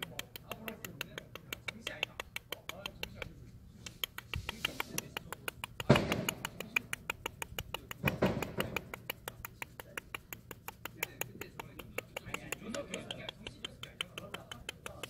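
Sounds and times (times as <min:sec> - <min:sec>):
rapid even ticking: 0:00.0 - 0:15.0.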